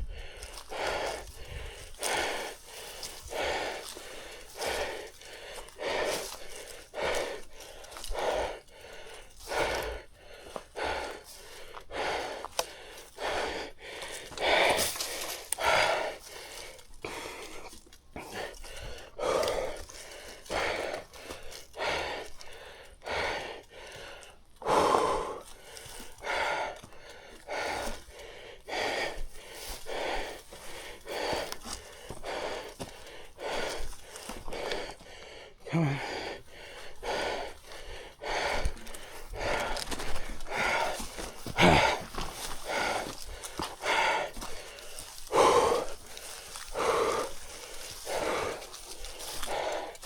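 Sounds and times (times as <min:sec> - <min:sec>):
man breathing hard: 0:00.0 - 0:50.0.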